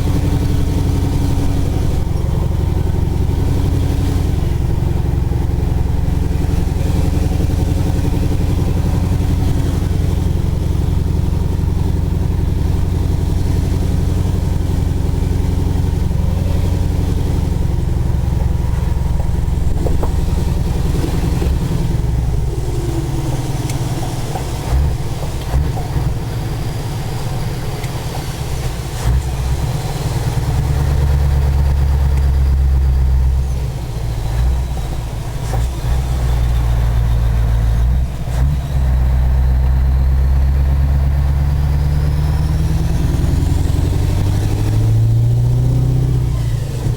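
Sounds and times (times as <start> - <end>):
diesel truck engine running: 0.0 - 46.9
engine knocks: 0.0 - 46.9.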